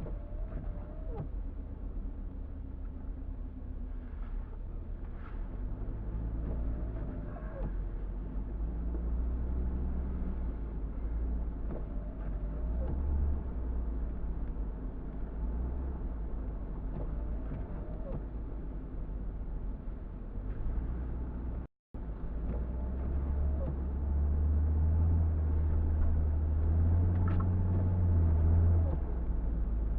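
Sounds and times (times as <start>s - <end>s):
car engine and road rumble: 0.0s - 29.9s.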